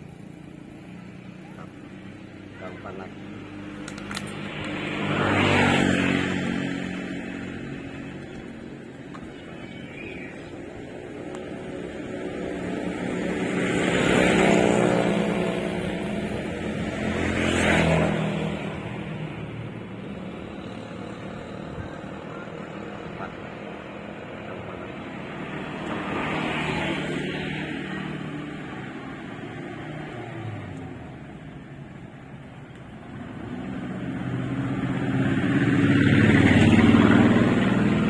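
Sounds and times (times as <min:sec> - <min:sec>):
vehicles passing on road: 0:00.0 - 0:38.0.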